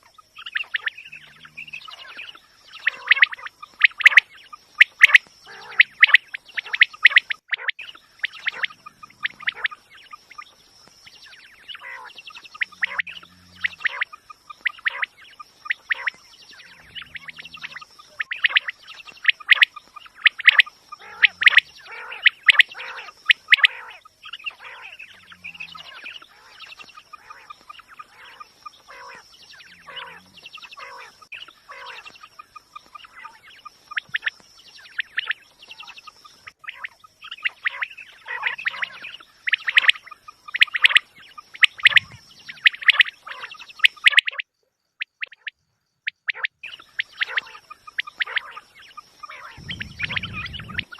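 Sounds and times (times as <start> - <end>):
quails chirping: 0.0 - 50.9.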